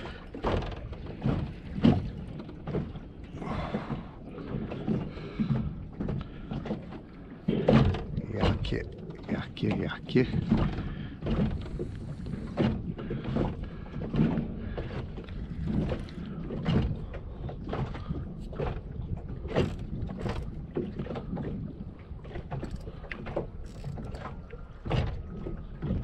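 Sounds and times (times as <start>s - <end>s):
waves slapping against boat hull: 0.0s - 26.0s
wind rumble on microphone: 0.0s - 26.0s.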